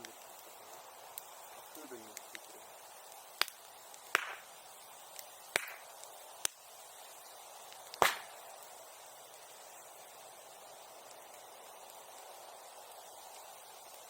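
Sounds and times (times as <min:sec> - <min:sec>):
bonfire popping and cracking: 0:00.0 - 0:14.0
low fire hiss: 0:00.0 - 0:14.0.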